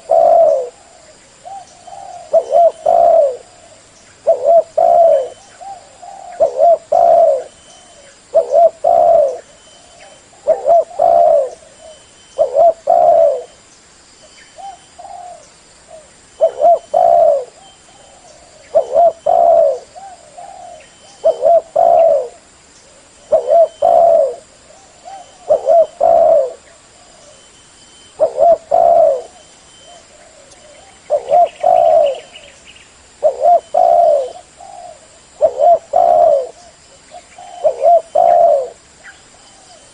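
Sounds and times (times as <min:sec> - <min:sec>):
dove cooing: 0:00.0 - 0:13.6, 0:14.6 - 0:32.6, 0:33.2 - 0:39.9.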